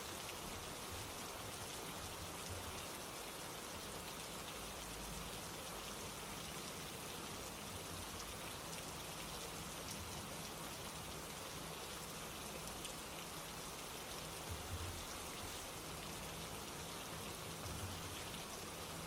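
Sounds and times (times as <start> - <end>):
rain pattering on a surface: 0.0 - 19.0.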